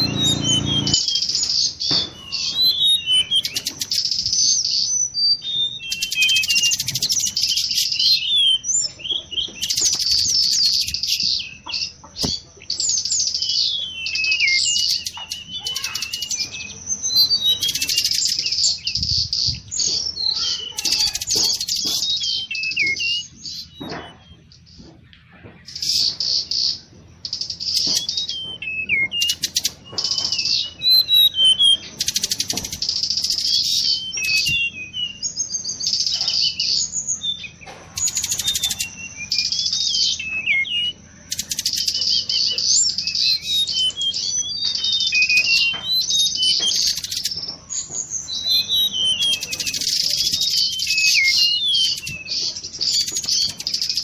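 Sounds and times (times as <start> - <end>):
bird warbling song: 0.0 - 54.0.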